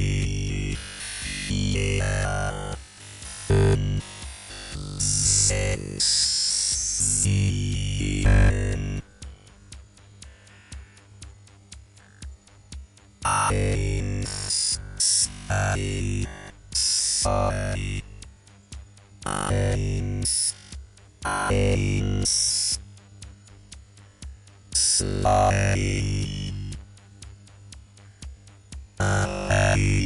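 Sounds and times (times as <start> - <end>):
electronic ticking pulse: 0.0 - 30.0.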